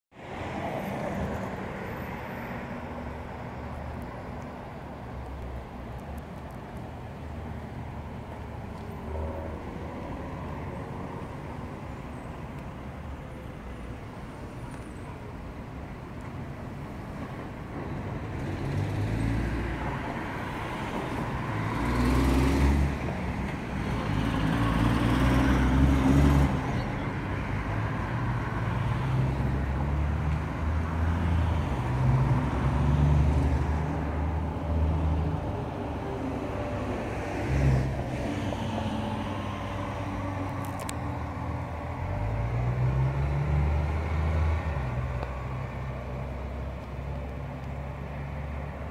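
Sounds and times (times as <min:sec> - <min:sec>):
cars passing: 0:00.1 - 0:48.9.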